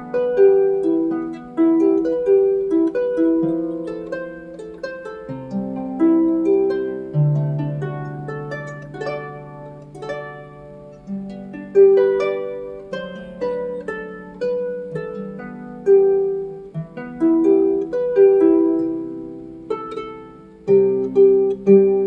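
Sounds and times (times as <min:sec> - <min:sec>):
plucked string melody: 0:00.0 - 0:22.0.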